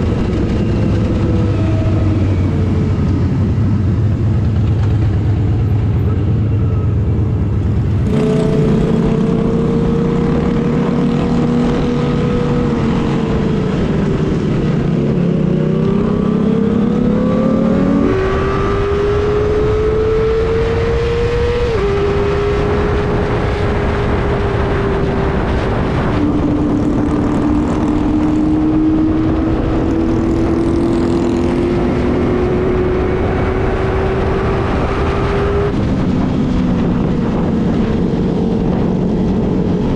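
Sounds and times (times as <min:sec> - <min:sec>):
motorcycle engine at high revs: 0:07.9 - 0:39.9.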